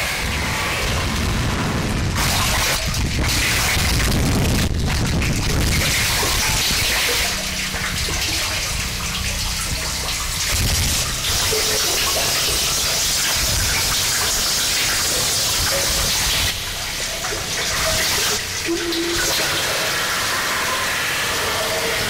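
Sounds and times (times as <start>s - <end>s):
harsh noise music: 0.0s - 14.8s, 16.4s - 22.0s.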